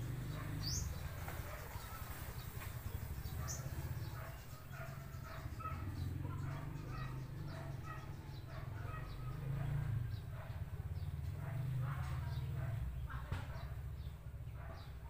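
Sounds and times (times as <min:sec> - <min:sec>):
birds chirping and clucking: 0:00.0 - 0:15.0.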